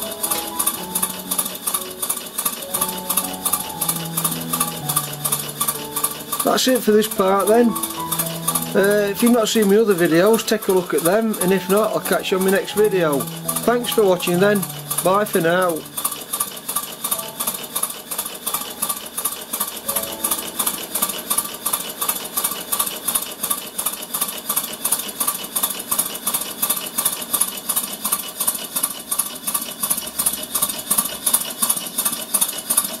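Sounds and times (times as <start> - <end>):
rhythmic steam hissing: 0.0 - 27.8.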